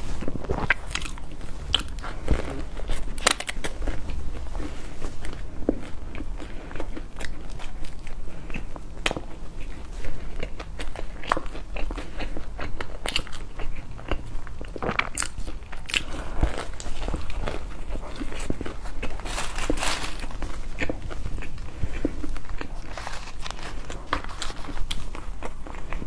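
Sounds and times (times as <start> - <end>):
crunching bread crust: 0.0 - 26.0.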